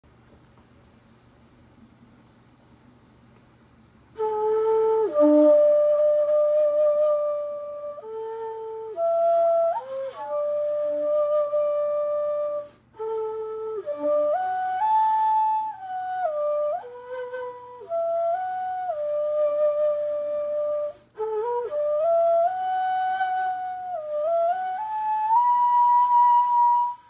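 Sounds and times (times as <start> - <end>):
bamboo flute slow melody: 4.1 - 27.0.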